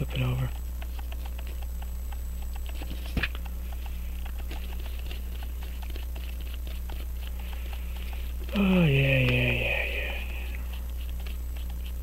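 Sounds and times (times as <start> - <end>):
fast even ticking: 0.0 - 12.0
low electrical hum: 0.0 - 12.0.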